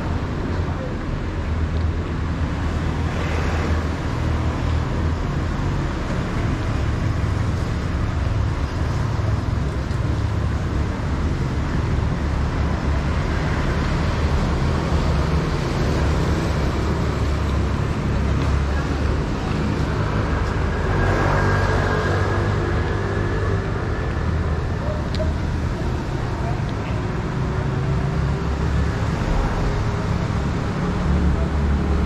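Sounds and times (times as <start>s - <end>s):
street traffic passing: 0.0s - 32.0s.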